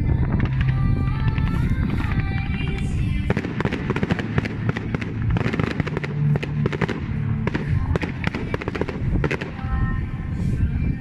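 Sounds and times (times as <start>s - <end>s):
fireworks bangs and crackling: 0.0s - 10.1s.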